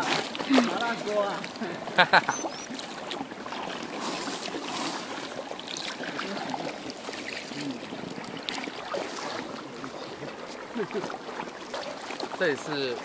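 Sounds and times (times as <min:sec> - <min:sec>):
kayak paddles splashing water: 0:00.0 - 0:13.0.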